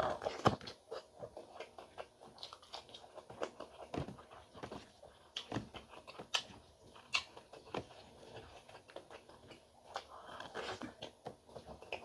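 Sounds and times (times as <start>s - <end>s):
person chewing and smacking: 0.0s - 12.0s.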